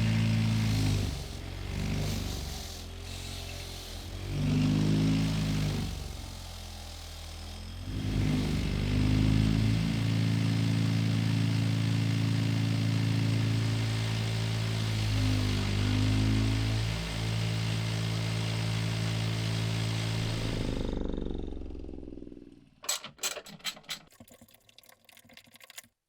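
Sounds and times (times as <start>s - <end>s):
electric power tool motor: 0.0s - 21.6s.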